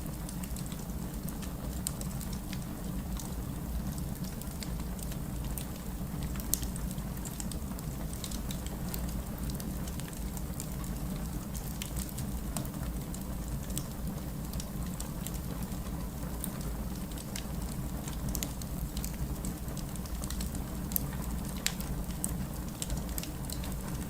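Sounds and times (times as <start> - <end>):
fire crackling and popping: 0.0 - 24.0
rain rumble and hiss: 0.0 - 24.0.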